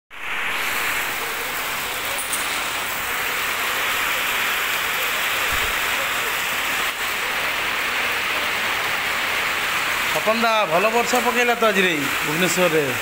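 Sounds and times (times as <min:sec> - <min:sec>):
heavy rain on wet ground: 0:00.1 - 0:13.0.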